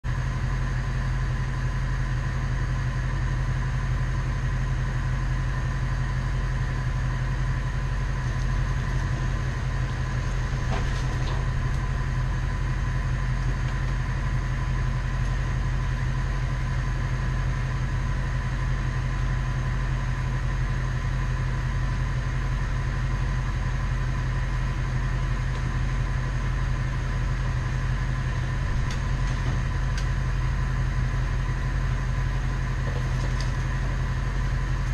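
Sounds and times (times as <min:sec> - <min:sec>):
truck engine droning with whine: 0:00.0 - 0:34.9.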